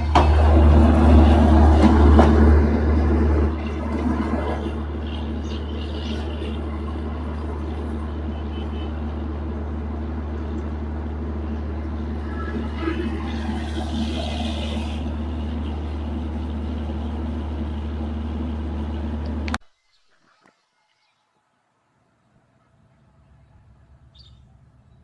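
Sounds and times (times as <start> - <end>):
vehicle engine humming: 0.0 - 19.7, 22.0 - 25.0.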